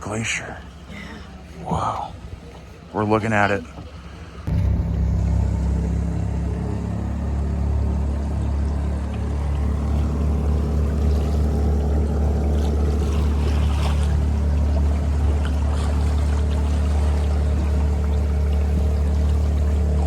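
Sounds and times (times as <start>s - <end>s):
boat motor humming: 0.0s - 20.0s
water noise: 0.0s - 20.0s.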